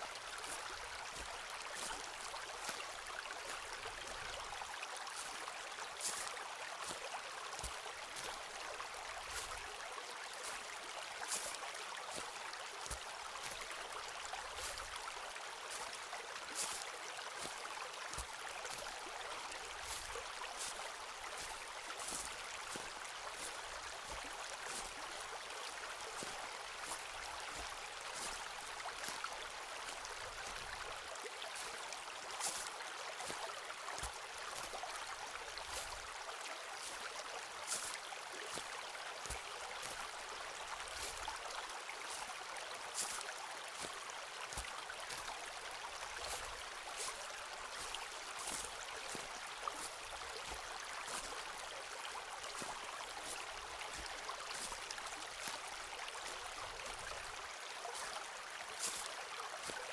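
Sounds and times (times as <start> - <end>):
running water rushing: 0.0 - 59.9
footsteps crunching on path: 0.2 - 13.7, 14.5 - 15.0, 15.7 - 31.8, 32.4 - 36.2, 36.8 - 42.3, 42.9 - 59.9.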